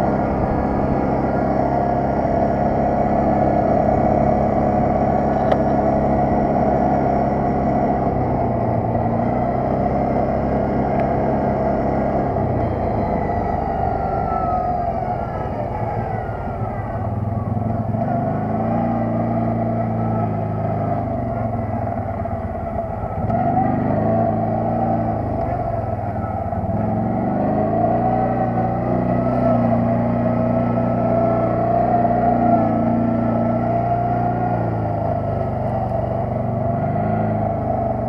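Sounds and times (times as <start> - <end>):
quad bike engine revving: 0.0 - 38.0.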